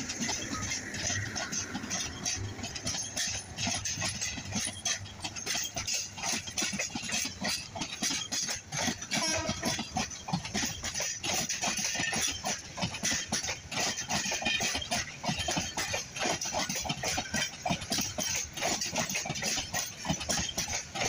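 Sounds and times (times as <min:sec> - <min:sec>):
train wheels clattering over rail joints: 0:00.0 - 0:21.0.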